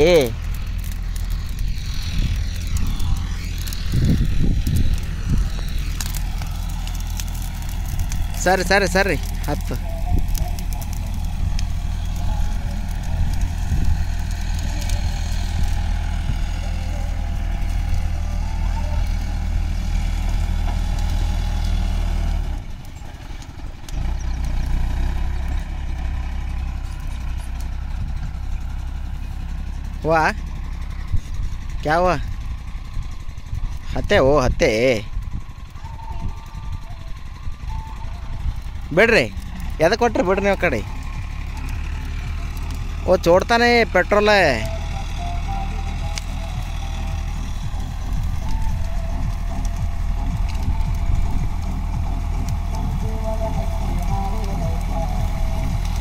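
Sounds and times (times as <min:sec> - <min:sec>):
dry brush crackling and burning: 0:00.0 - 0:56.0
tractor diesel engine running: 0:00.0 - 0:56.0.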